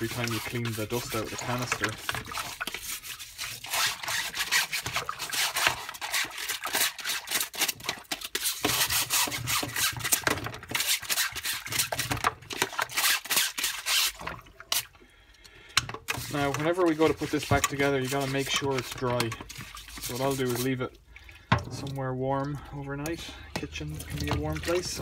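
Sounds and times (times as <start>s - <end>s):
scrubbing wet mesh: 0.0s - 15.2s, 16.0s - 25.0s.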